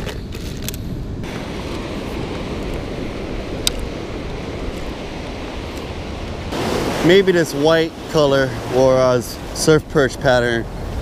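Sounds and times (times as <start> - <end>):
surf: 1.2 - 11.0.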